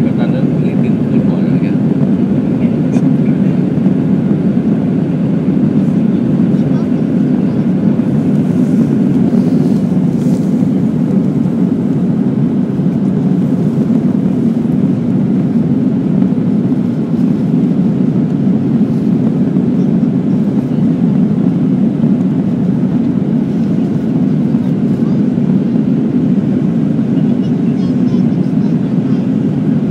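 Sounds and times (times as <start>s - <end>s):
jet engine cabin drone: 0.0s - 29.9s.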